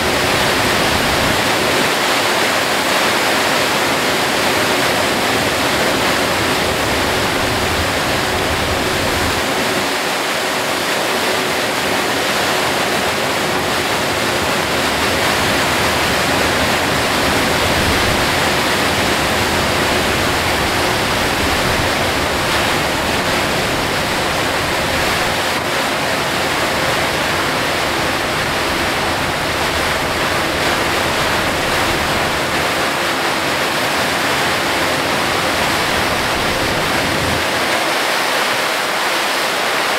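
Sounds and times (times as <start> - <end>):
torrential rain and road hiss: 0.0 - 39.9.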